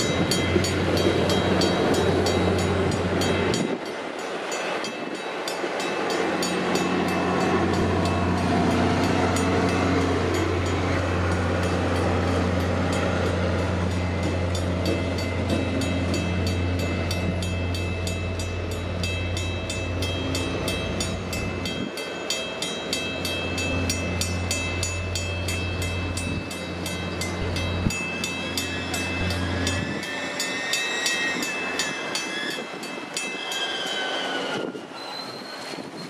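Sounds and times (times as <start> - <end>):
railroad crossing bells ringing: 0.0 - 36.0
train rumbling low: 0.0 - 36.0.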